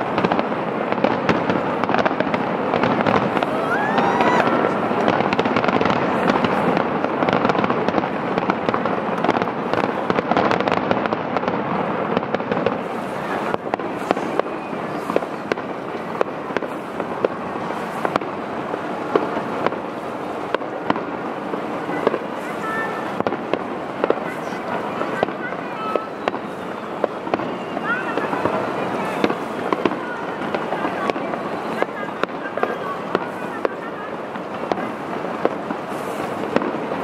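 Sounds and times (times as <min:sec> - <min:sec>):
firework shells bursting: 0:00.0 - 0:37.0.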